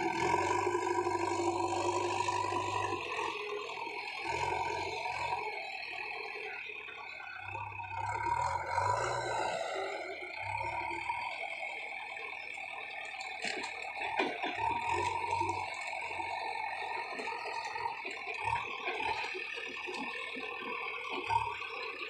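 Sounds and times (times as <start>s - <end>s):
diesel engine running under load: 0.0s - 22.0s
hydraulic whine: 0.0s - 22.0s.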